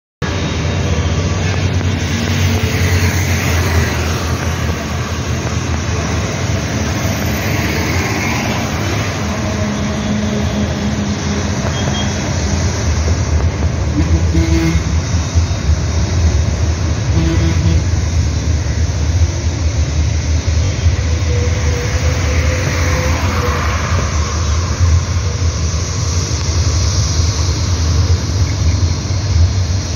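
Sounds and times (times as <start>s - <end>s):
bus engine: 0.2s - 29.9s
low traffic rumble: 0.2s - 29.9s.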